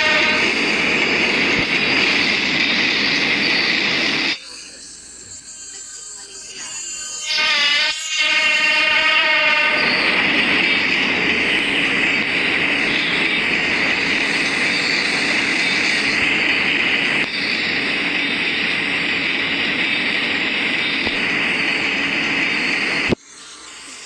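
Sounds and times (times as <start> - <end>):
train wheels on rails: 0.0 - 24.0
high-pitched ringing hiss: 1.2 - 24.0.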